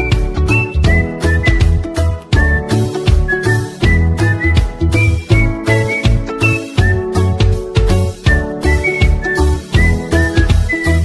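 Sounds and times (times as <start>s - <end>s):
upbeat music with whistled melody: 0.0s - 11.0s.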